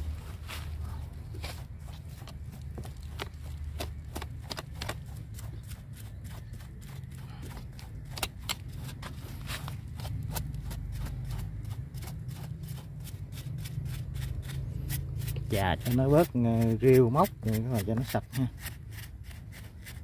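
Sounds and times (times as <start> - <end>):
stiff brush scrubbing bark: 0.0 - 20.0.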